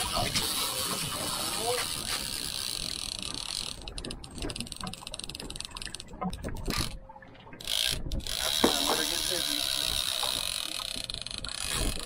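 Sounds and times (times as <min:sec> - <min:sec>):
fishing reel ratchet clicking: 0:00.0 - 0:06.0, 0:07.7 - 0:12.0.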